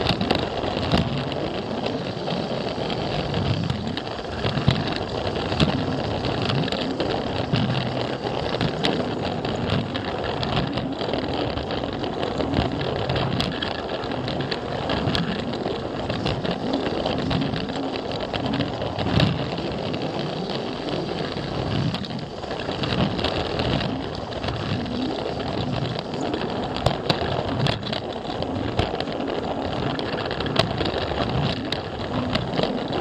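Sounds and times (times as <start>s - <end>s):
clicks over track joints: 0.0s - 33.0s
plastic wheels rattling: 0.0s - 33.0s.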